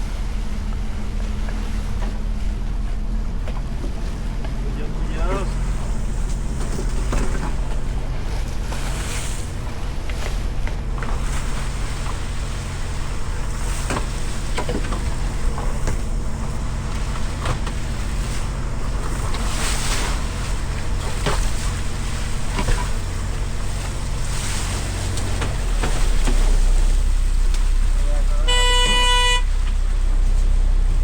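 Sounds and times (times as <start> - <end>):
boat engine running: 0.0 - 31.0
water and wind noise: 0.0 - 31.0.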